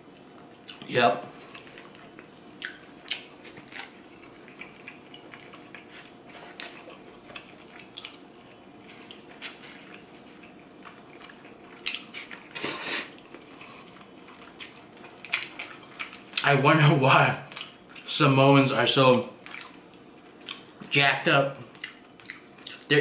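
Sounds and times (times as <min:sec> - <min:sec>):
faint chewing: 0:00.1 - 0:16.5, 0:17.4 - 0:18.1, 0:19.4 - 0:20.9, 0:21.6 - 0:22.9.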